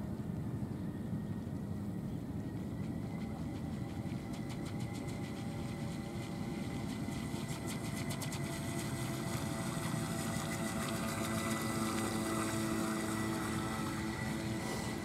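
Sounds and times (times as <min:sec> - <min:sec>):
electric motor whine: 0:02.4 - 0:15.0
water rushing: 0:02.9 - 0:15.0.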